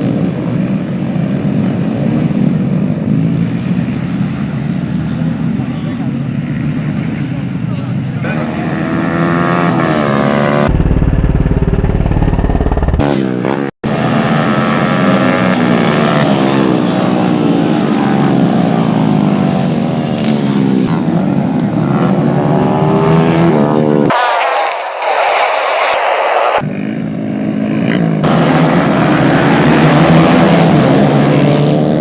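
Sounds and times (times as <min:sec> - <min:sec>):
race motorcycles revving: 0:00.0 - 0:32.0.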